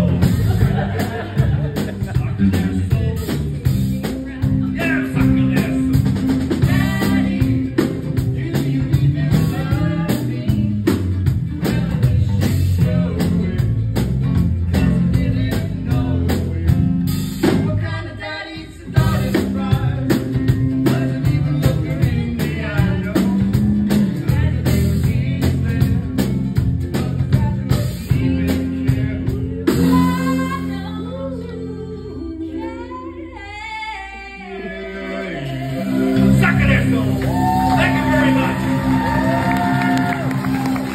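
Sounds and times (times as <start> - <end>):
bass line: 0.0 - 33.6, 35.4 - 40.9
man and woman singing: 0.0 - 40.9.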